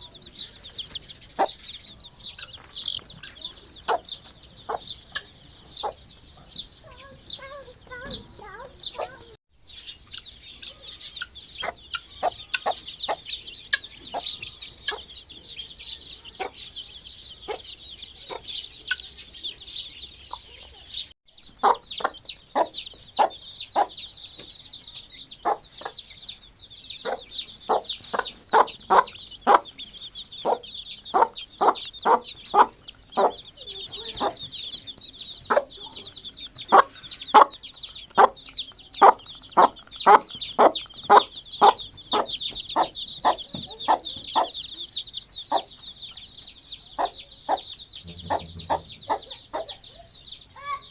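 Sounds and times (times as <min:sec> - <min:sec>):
hen clucking: 0:00.0 - 0:09.4, 0:10.0 - 0:20.8, 0:21.4 - 0:50.9
chicks peeping: 0:00.0 - 0:50.9.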